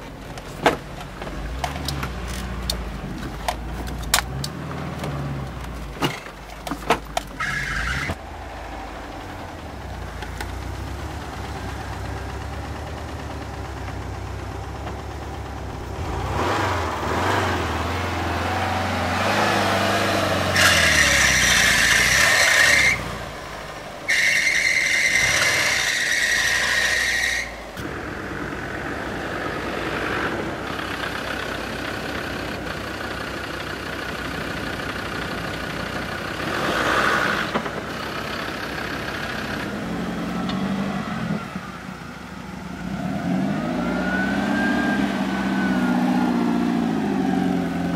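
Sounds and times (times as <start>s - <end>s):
off-road vehicle engine revving: 1.2s - 6.2s, 7.4s - 47.9s.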